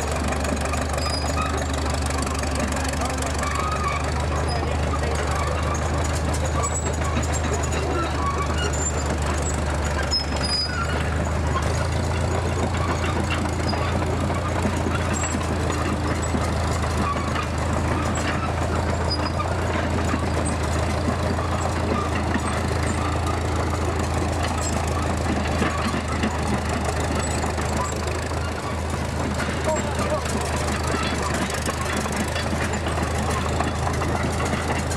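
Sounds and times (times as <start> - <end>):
crawler dozer engine running: 0.0 - 34.9.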